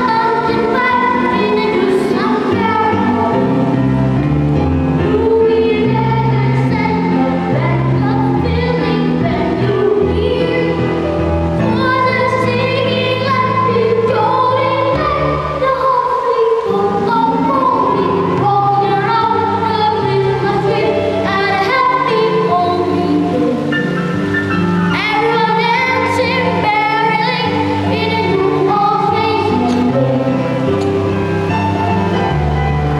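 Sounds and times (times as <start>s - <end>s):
children's choir singing: 0.0s - 3.9s, 4.7s - 32.2s.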